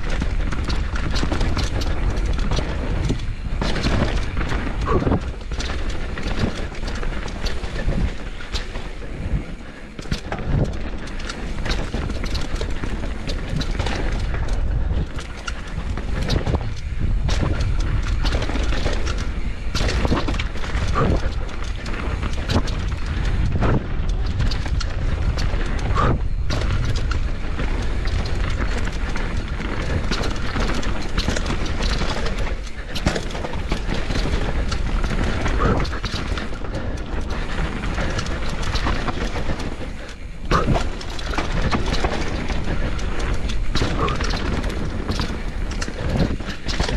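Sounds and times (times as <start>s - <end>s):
bike knocks and rattles: 0.0s - 46.9s
tyres rolling over dirt and stones: 0.0s - 46.9s
wind rumble on microphone: 0.0s - 46.9s.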